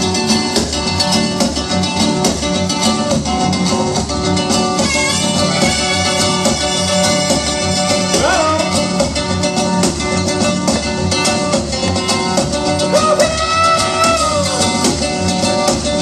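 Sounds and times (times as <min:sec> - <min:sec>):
band playing dance music: 0:00.0 - 0:16.0.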